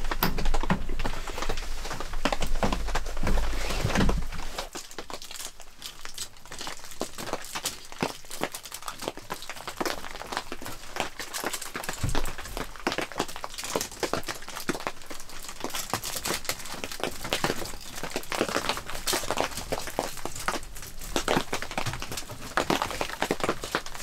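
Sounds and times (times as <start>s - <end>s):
foil tape crinkling: 0.0s - 24.0s.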